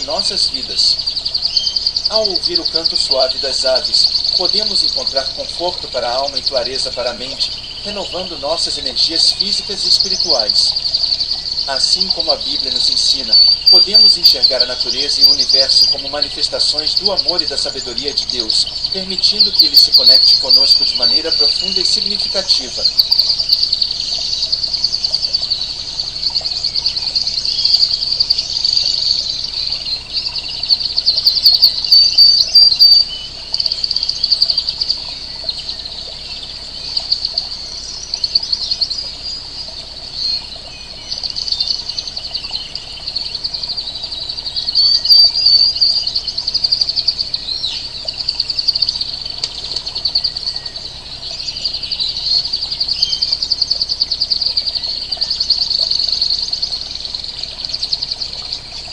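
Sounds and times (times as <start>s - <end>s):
birds chirping and calling: 0.0s - 58.9s
pulsing insect trill: 0.0s - 58.9s.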